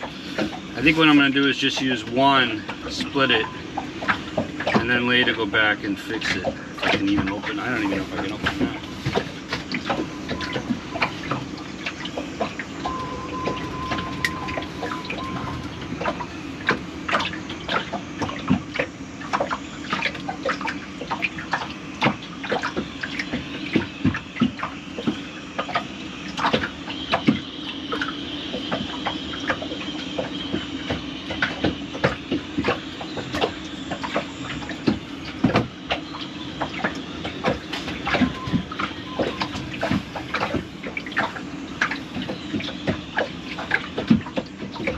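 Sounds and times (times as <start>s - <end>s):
steady low hum: 0.0s - 44.9s
water trickling and dripping: 0.0s - 44.9s.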